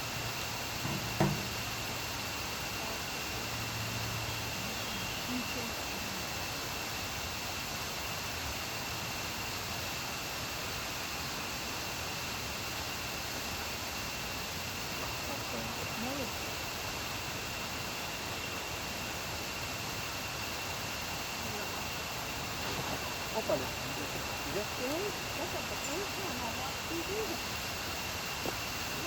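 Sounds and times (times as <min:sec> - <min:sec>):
rushing water hiss: 0:00.0 - 0:29.0.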